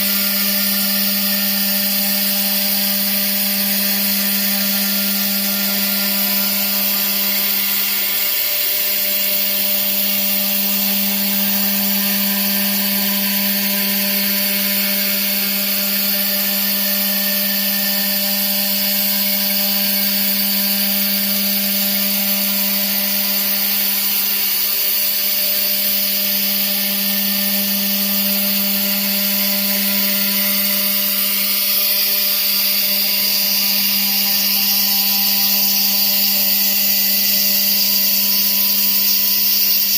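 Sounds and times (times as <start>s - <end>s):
router spindle humming and hissing: 0.0s - 39.9s.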